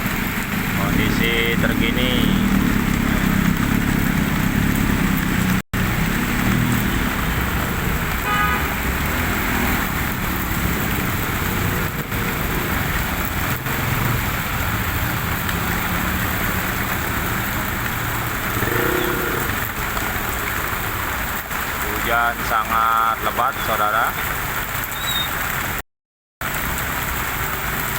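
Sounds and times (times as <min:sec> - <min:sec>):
car and motorcycle engines rumbling: 0:00.0 - 0:25.8
heavy rain on road: 0:00.0 - 0:25.8, 0:26.4 - 0:27.9.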